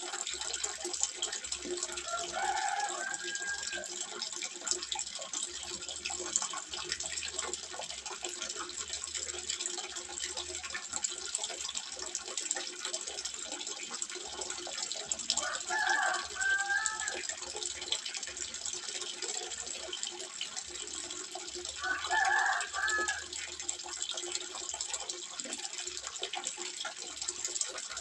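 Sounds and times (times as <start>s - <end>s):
water trickling into pond: 0.0s - 28.0s.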